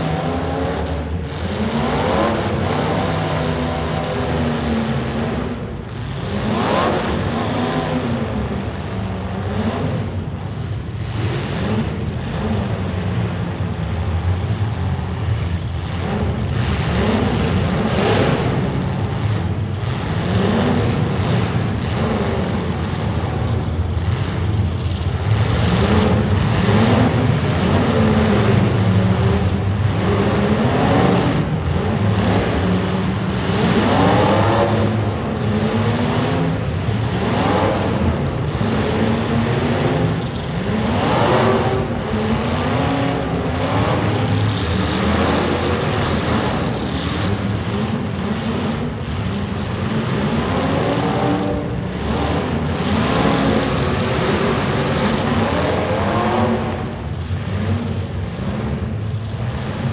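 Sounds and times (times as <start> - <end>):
car engines revving: 0.0 - 59.9
cars hitting each other: 0.0 - 59.9.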